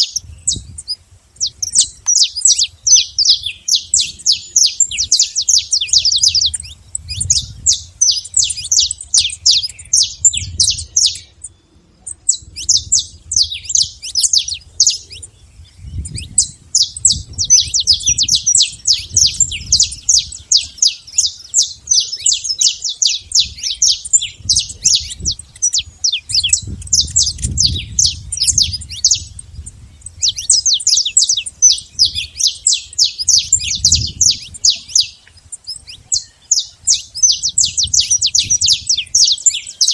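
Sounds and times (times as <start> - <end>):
finch singing rapid chirps: 0.0 - 39.9.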